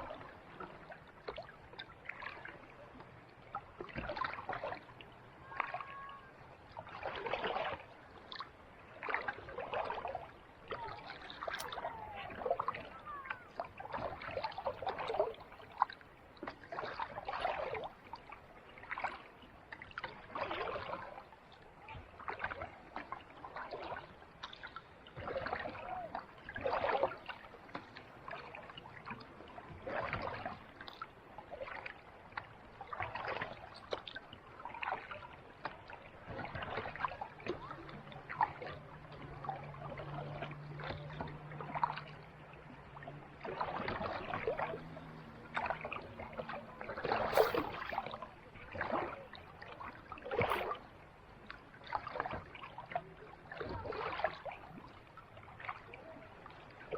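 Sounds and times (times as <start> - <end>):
paddle splashing in water: 0.0 - 56.9.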